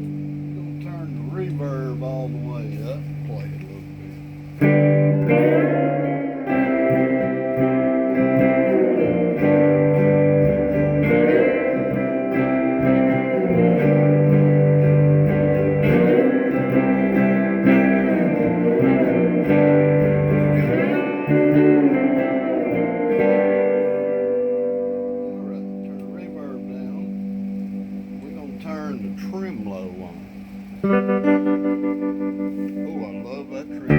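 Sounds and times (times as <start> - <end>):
electric guitar with reverb: 0.0 - 33.9
low bass notes: 0.0 - 33.9.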